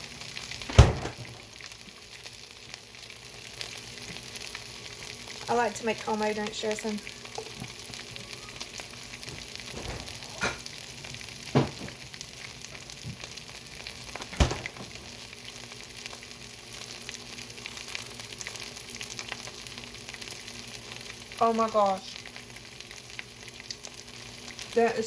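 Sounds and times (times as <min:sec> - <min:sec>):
food sizzling in waffle iron: 0:00.0 - 0:25.0.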